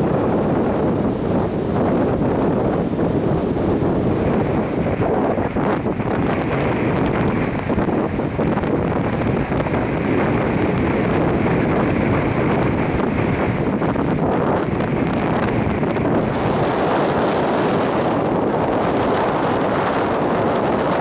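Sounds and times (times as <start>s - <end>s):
choppy sea waves: 0.0s - 21.0s
wind buffeting microphone: 0.0s - 21.0s.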